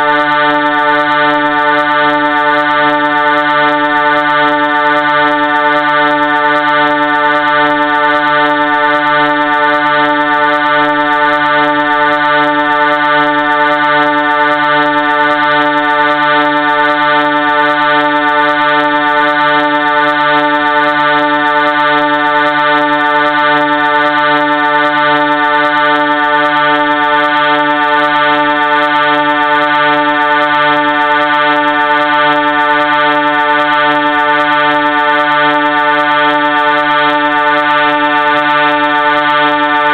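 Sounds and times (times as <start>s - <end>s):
train horn chord: 0.0s - 39.9s.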